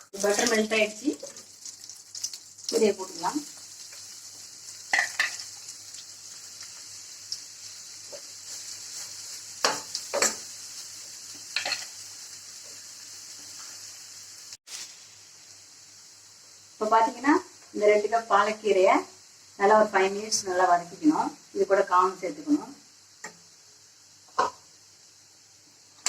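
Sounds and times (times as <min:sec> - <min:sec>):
spinach sizzling in butter: 0:00.0 - 0:26.0.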